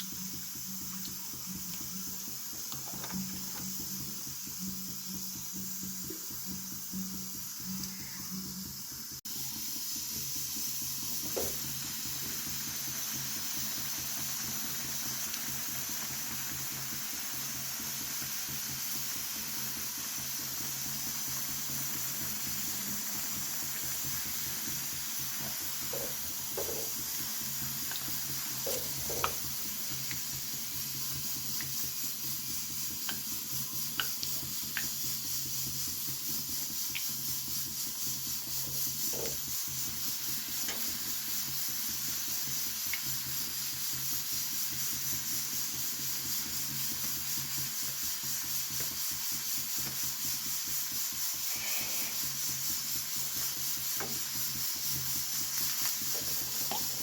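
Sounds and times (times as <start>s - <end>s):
food sizzling in hot oil: 0.0s - 57.0s.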